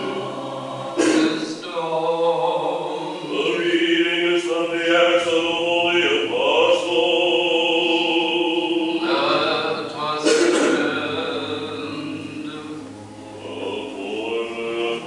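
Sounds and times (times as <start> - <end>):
choir singing a cappella chant: 0.0 - 15.0.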